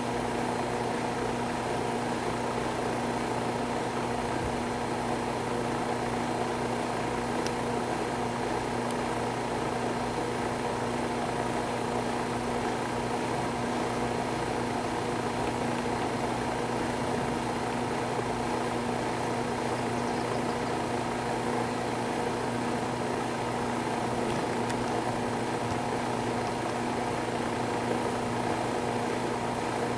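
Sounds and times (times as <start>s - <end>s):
steady machine hum: 0.0s - 29.9s.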